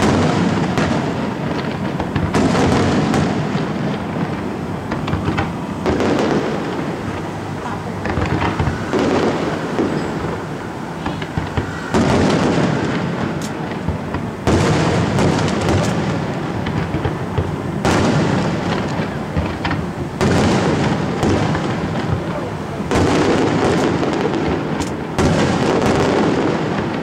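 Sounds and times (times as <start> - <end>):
fireworks booming and crackling: 0.0 - 27.0.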